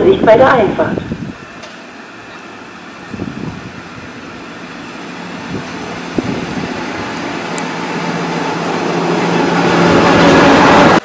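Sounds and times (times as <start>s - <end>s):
low engine hum: 0.0s - 11.0s
train rumbling into station: 0.0s - 11.0s.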